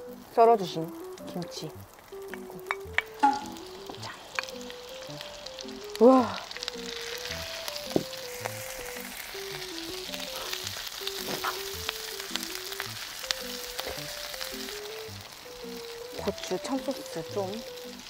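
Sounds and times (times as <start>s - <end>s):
light background music: 0.0s - 18.0s
meat sizzling in a hot pan: 0.0s - 18.0s.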